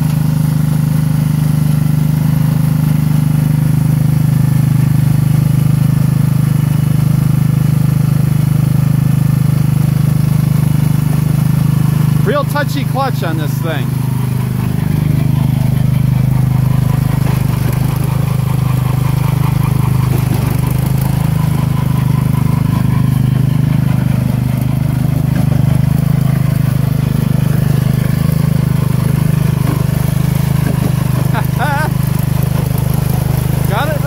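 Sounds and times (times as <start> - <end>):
lawn tractor engine running: 0.0 - 34.0.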